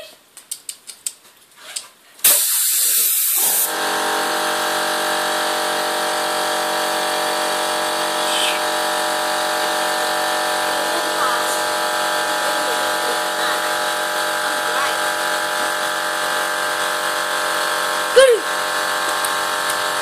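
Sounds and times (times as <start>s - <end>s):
small electric motor humming: 2.7s - 20.0s.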